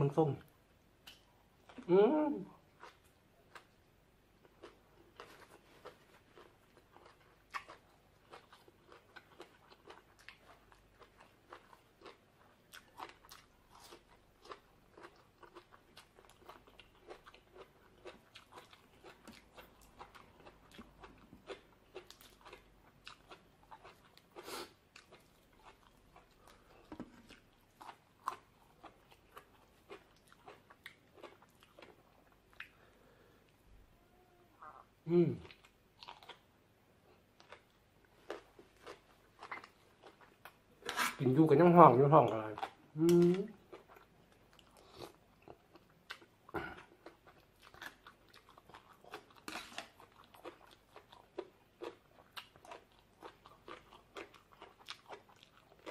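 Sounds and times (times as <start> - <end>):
person chewing crunchy food: 2.6 - 3.8, 4.4 - 33.6, 34.6 - 41.2, 42.3 - 55.9.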